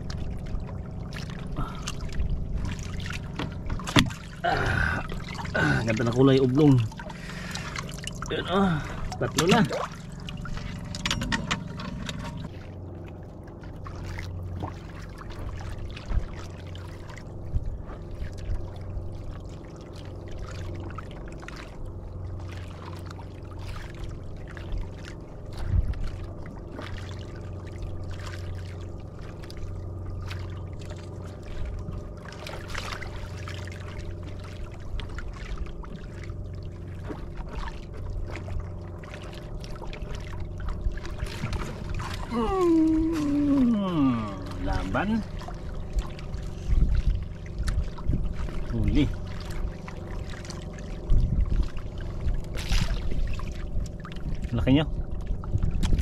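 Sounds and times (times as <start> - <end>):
small splashes: 0.0 - 54.6
steady low hum: 0.0 - 56.0
water sloshing around boat: 0.0 - 56.0.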